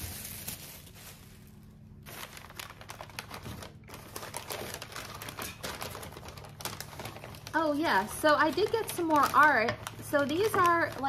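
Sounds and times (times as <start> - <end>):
paper bag rustling and crinkling: 0.0 - 11.0.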